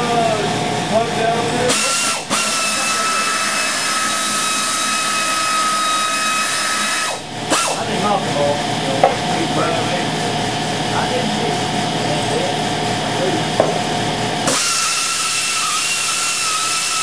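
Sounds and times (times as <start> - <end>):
compressor running with high whine: 0.0 - 17.0.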